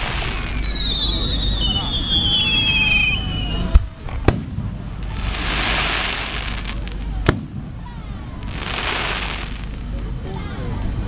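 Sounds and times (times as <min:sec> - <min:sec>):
firework bang: 0:00.0 - 0:09.8
firework crackling hiss: 0:00.0 - 0:10.4.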